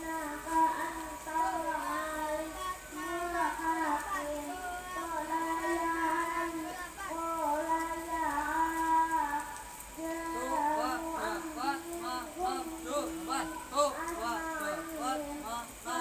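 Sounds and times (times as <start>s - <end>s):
high young voices singing: 0.0s - 16.0s.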